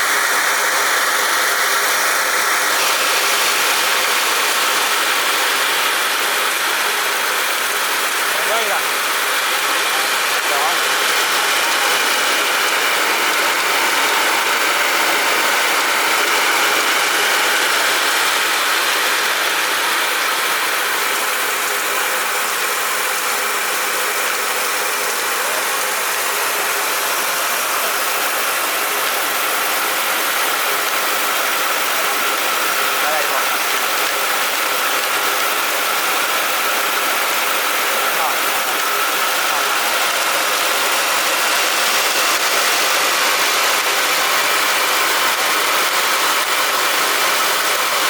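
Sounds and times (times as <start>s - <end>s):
rice mill whirring: 0.0s - 48.0s.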